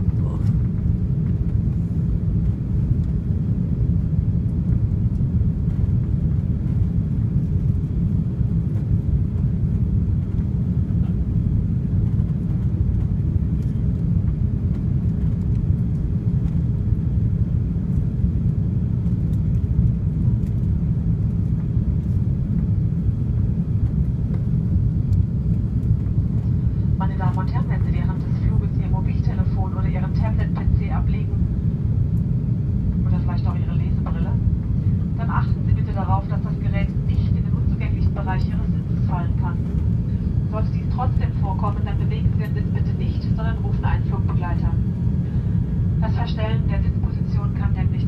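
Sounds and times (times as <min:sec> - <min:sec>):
aircraft cabin engine rumble: 0:00.0 - 0:48.0
faint hum: 0:00.0 - 0:48.0.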